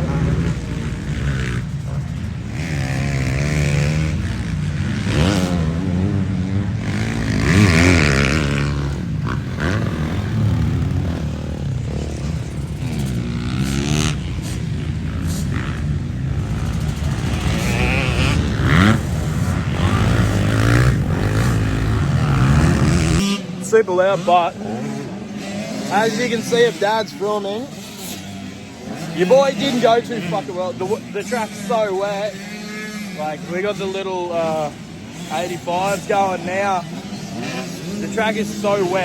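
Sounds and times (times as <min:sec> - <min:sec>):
motocross bikes revving: 0:00.0 - 0:39.0.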